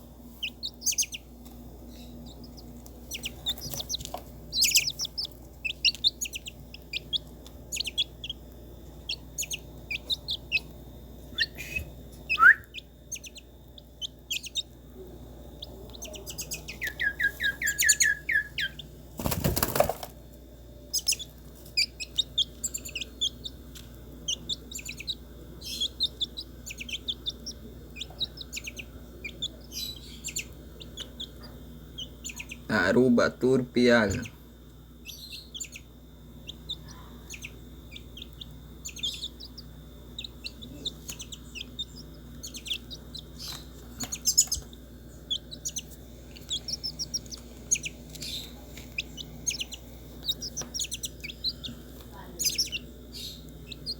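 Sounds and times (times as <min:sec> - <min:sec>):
birds chirping and calling: 0:00.4 - 0:01.3, 0:01.9 - 0:08.4, 0:09.0 - 0:10.7, 0:11.3 - 0:14.8, 0:15.6 - 0:20.1, 0:20.9 - 0:33.1, 0:35.0 - 0:53.9.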